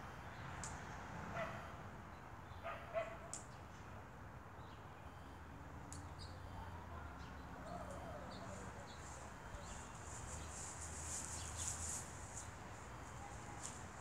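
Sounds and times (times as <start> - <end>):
faint birds chirping: 2.1 - 14.0.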